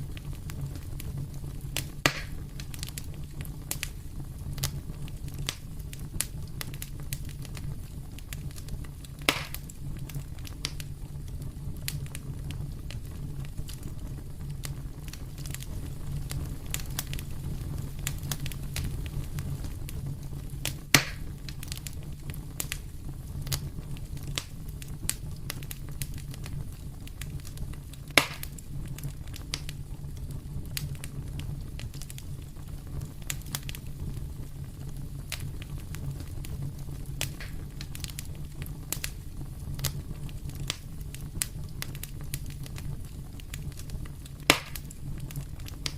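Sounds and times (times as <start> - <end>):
loud fire pops: 0.0 - 45.9
wood fire crackling: 0.0 - 45.9.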